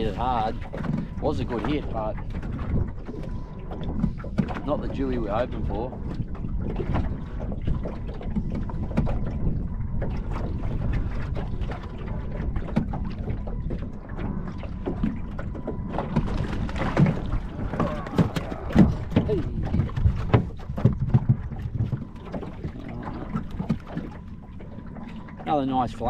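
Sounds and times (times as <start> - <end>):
water slapping boat hull: 0.0 - 26.0
wind buffeting microphone: 0.0 - 26.0.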